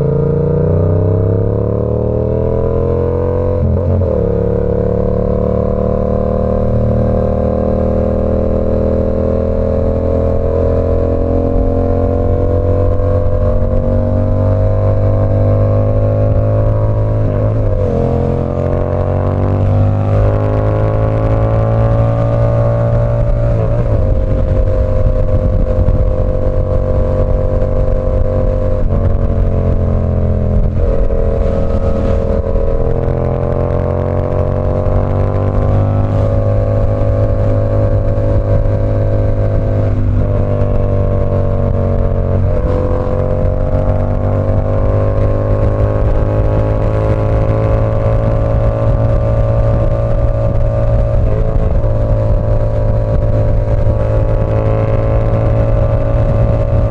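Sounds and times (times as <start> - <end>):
motorcycle engine under way: 0.0 - 56.9.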